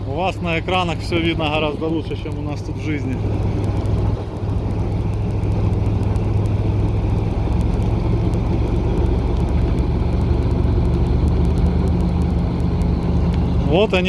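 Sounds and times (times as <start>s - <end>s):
locomotive diesel engine running: 0.0s - 14.0s.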